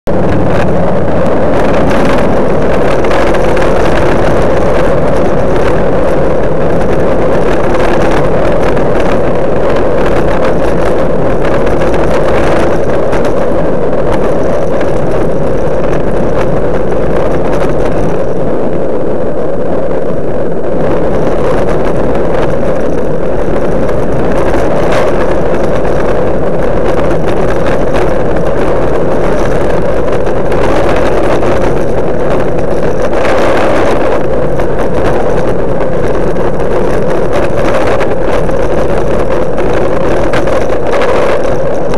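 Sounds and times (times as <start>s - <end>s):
low drone: 0.1s - 41.9s
wind buffeting microphone: 0.1s - 41.9s.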